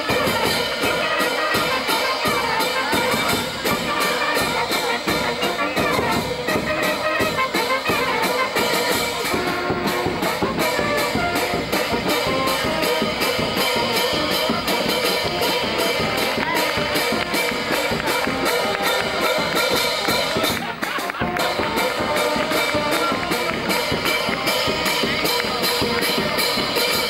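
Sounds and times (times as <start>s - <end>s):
brass band music: 0.0s - 27.0s
quick drumbeat: 0.0s - 27.0s.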